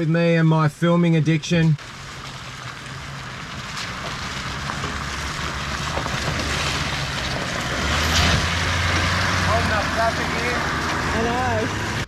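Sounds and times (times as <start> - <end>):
tyre noise on dirt road: 0.0 - 12.0.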